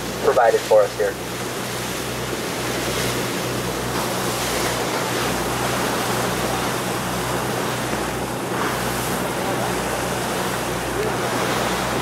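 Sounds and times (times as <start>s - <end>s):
boat engine drone: 0.0s - 12.0s
rush of wind and water: 0.0s - 12.0s.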